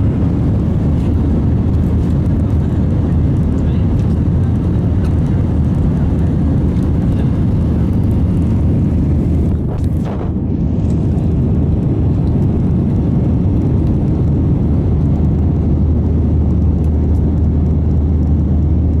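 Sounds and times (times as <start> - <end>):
jet engine cabin noise: 0.0 - 19.0.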